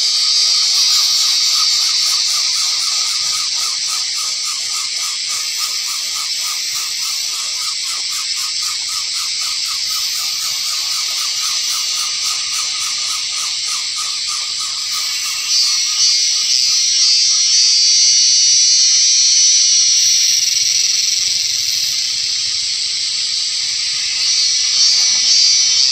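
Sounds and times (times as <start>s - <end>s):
insect chorus shrill hiss: 0.0s - 25.9s.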